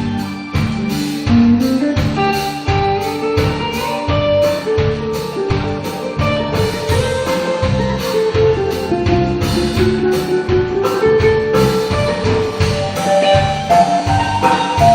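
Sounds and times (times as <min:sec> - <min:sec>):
held melody notes: 0:00.0 - 0:14.9
steady drum beat: 0:00.0 - 0:14.9.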